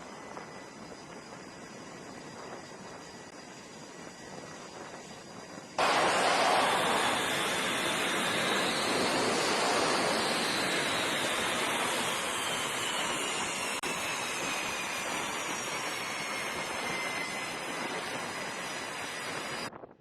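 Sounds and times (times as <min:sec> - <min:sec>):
jet engine rushing with whine: 0:00.0 - 0:19.7.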